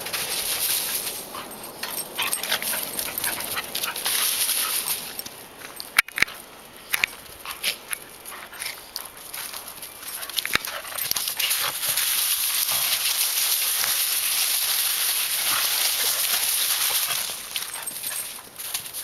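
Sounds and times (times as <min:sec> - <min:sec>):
dogs scuffling in dry leaves: 0:00.0 - 0:19.0.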